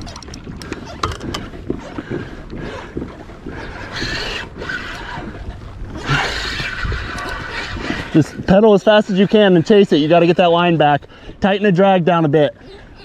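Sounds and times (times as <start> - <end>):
water sloshing against kayak hull: 0.0 - 11.4
wind on microphone: 0.0 - 13.0.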